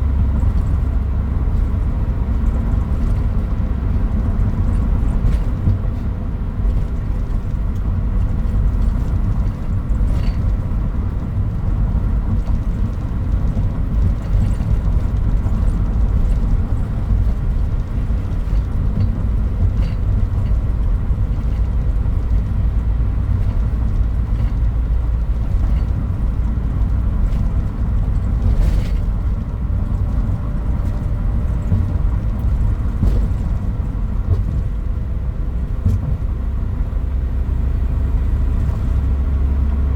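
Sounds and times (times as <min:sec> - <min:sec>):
pickup truck engine rumble: 0:00.0 - 0:39.9.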